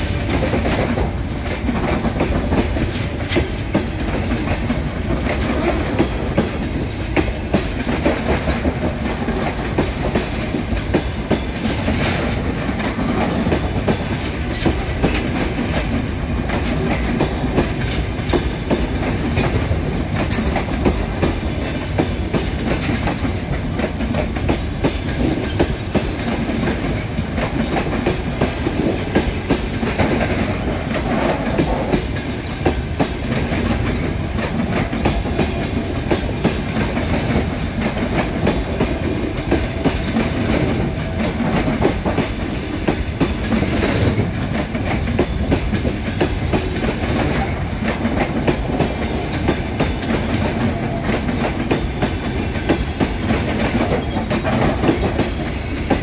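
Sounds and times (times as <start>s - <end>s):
train rumble: 0.0s - 56.0s
wheels clicking over rail joints: 0.0s - 56.0s.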